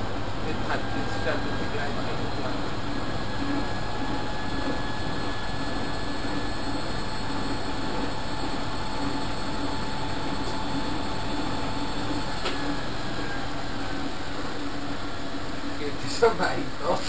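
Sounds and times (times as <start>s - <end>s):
washing machine whirring: 0.0s - 17.0s.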